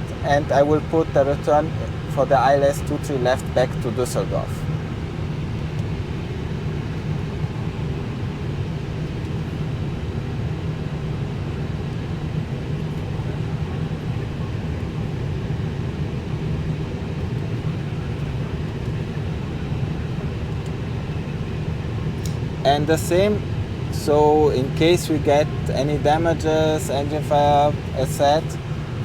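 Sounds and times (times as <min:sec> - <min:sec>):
air conditioning hum and hiss: 0:00.0 - 0:29.0.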